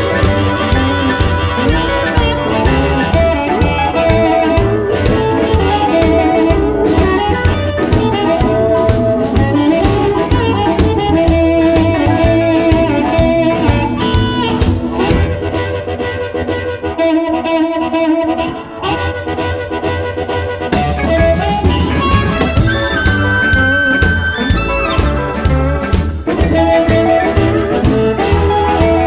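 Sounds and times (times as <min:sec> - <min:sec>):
drum kit beat: 0:00.0 - 0:17.2, 0:20.1 - 0:29.0
electric guitar: 0:00.0 - 0:29.0.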